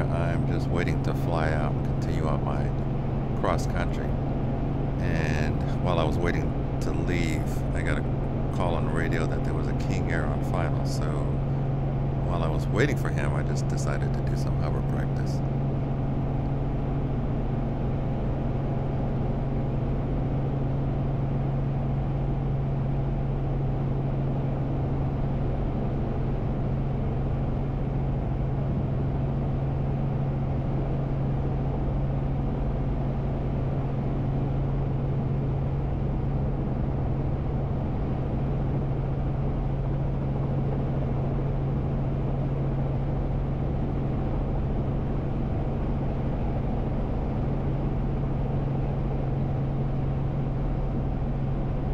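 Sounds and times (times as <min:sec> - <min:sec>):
helicopter cabin drone: 0:00.0 - 0:51.9.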